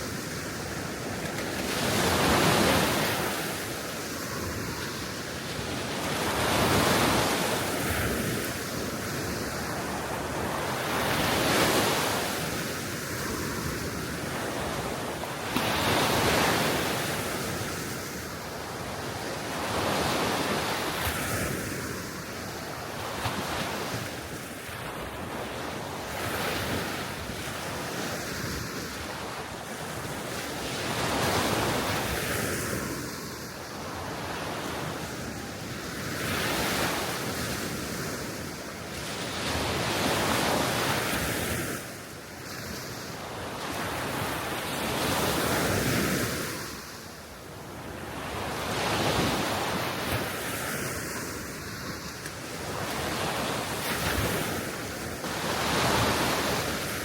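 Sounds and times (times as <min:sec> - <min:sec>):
small waves washing onto shore: 0:00.0 - 0:57.0.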